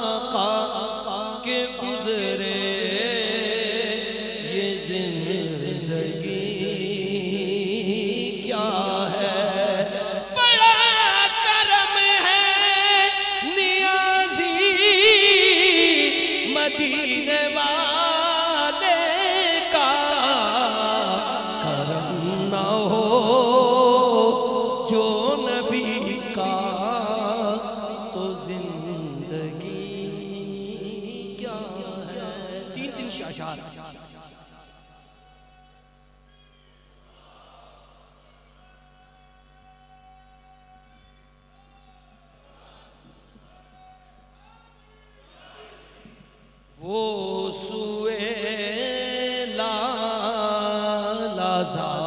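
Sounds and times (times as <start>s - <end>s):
man chanting devotional poem: 0.0s - 36.6s, 46.7s - 52.0s.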